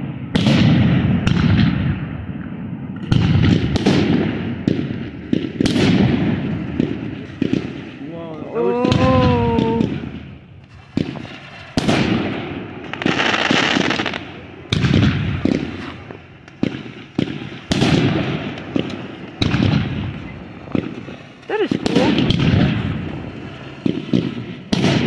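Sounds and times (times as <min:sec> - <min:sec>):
fireworks booming: 0:00.0 - 0:25.0
fireworks crackling and hissing: 0:00.0 - 0:25.0.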